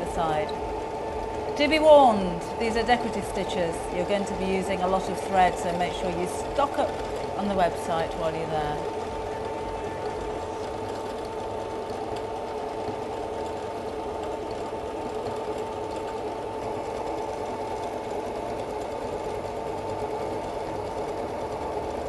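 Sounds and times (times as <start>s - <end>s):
sewing machine running: 0.0s - 22.0s.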